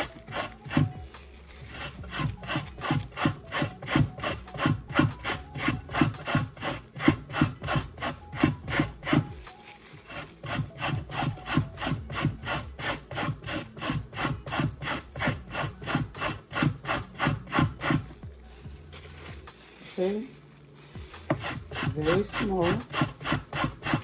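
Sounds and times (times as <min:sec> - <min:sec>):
carrot grated on metal grater: 0:00.0 - 0:24.0.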